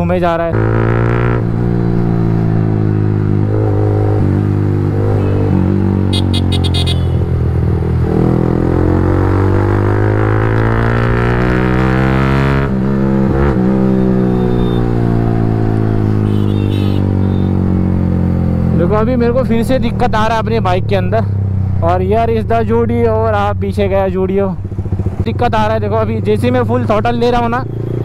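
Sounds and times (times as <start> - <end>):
motorcycle engine revving: 0.5 - 20.1, 24.5 - 28.0.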